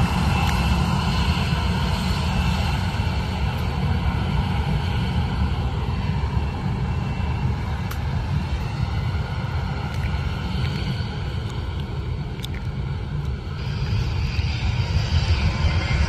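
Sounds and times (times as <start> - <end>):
faint jet engine whine: 0.0 - 16.0
jet engines low rumble: 0.0 - 16.0.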